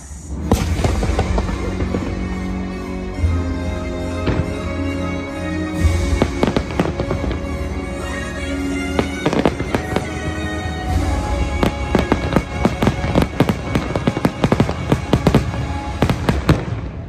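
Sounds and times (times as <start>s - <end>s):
fireworks bursting: 0.0s - 17.0s
music: 0.0s - 17.0s.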